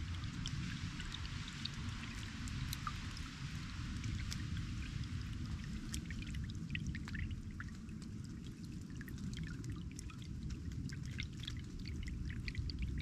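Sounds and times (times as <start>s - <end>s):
low water rush: 0.0s - 13.0s
water trickling and splashing: 0.0s - 13.0s.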